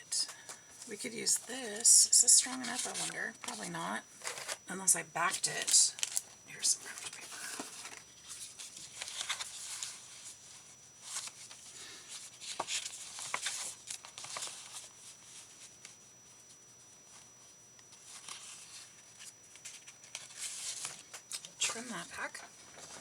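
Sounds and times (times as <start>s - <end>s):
paper rustling and crinkling: 1.3s - 4.6s, 5.4s - 16.5s, 17.1s - 23.0s.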